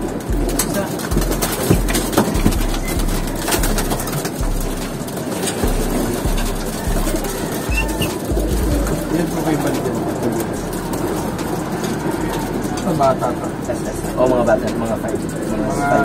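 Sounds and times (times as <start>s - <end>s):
low rumble: 0.0s - 14.6s
pigeons cooing: 0.0s - 16.0s.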